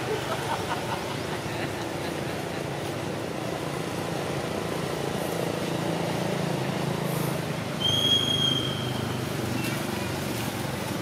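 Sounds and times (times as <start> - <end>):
motor vehicle engine humming: 0.0 - 11.0.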